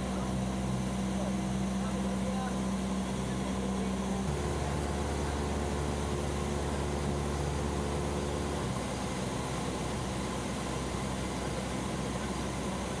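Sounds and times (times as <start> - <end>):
aircraft propeller engine in cabin: 0.0 - 13.0.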